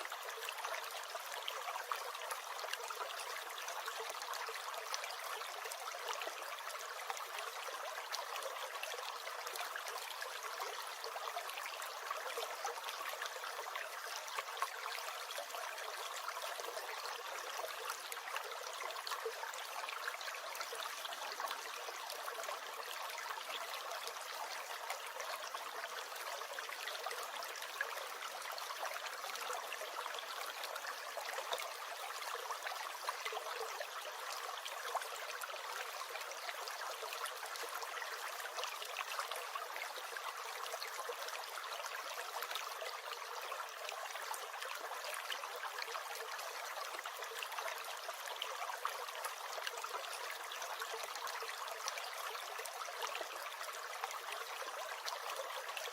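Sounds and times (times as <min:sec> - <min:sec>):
stream gurgling and trickling: 0:00.0 - 0:55.9.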